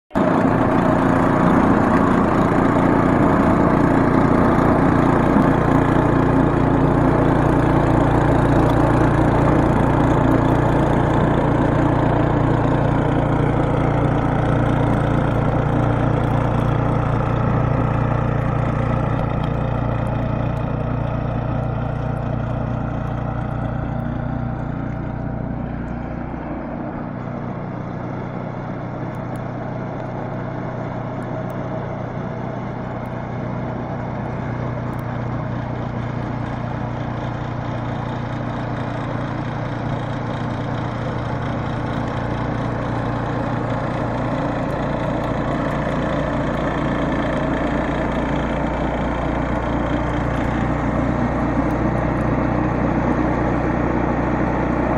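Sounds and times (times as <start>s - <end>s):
snowblower engine running: 0.1s - 54.9s.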